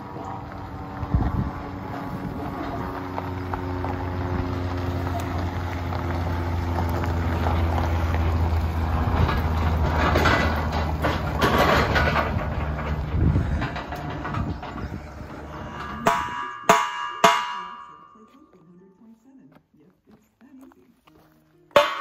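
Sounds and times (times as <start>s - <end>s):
trailer rattling and clanking: 0.0s - 19.2s, 21.7s - 22.0s
gravel crunching under tyres: 0.0s - 22.0s
truck engine hum: 0.0s - 22.0s.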